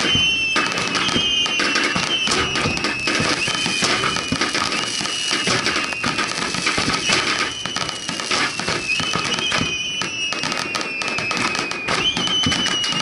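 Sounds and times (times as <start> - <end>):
falling firework whistles: 0.0 - 13.0
fireworks crackling and bursting: 0.0 - 13.0.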